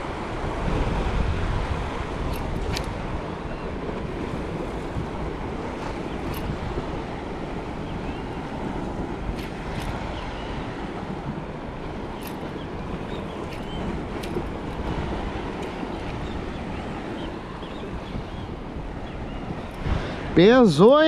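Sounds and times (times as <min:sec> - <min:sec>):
water lapping: 0:00.0 - 0:21.0
wind blowing across microphone: 0:00.0 - 0:21.0.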